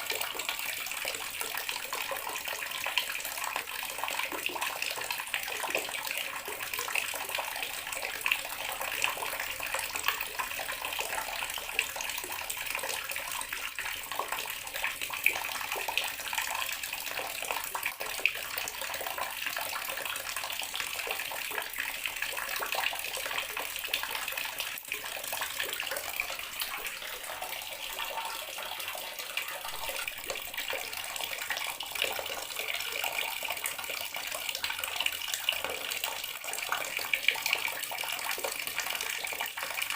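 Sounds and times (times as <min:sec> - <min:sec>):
water tap running into basin: 0:00.0 - 0:39.9.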